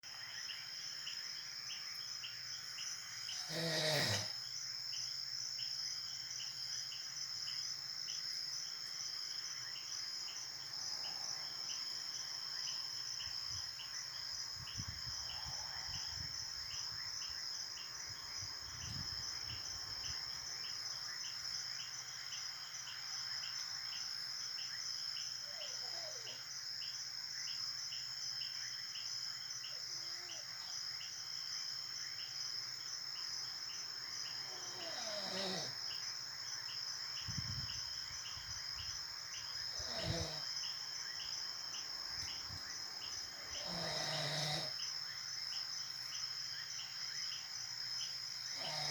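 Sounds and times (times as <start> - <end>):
crickets chirring: 0.0 - 48.9.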